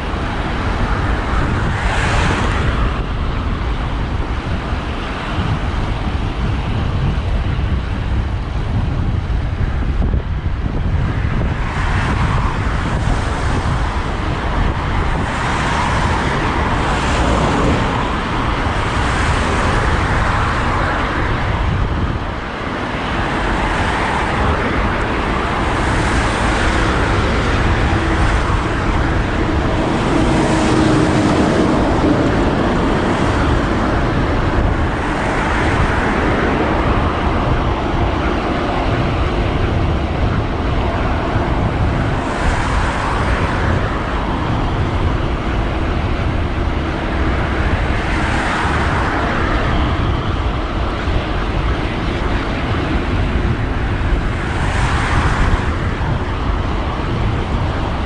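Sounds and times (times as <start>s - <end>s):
cars passing: 0.0s - 58.0s
wind and road noise: 0.0s - 58.0s.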